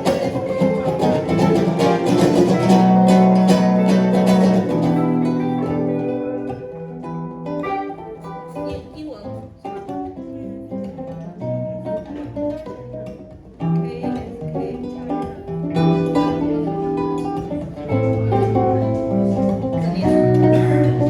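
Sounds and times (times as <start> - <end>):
acoustic and electric guitars playing: 0.0 - 21.0.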